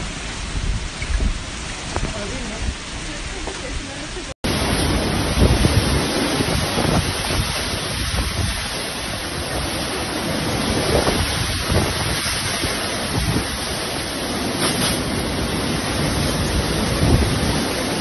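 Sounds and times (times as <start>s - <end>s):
strong gusting wind on microphone: 0.0s - 18.0s.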